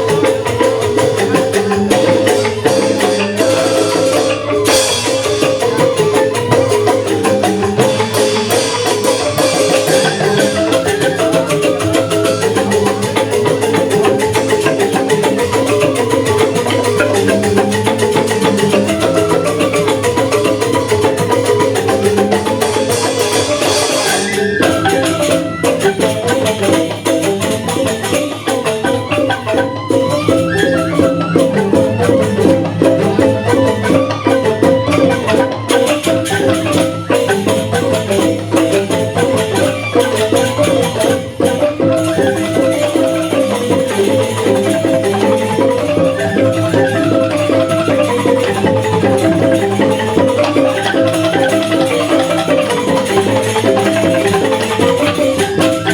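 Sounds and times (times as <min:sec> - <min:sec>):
bamboo xylophones playing fast: 0:00.0 - 0:55.9
light percussion: 0:00.0 - 0:55.9.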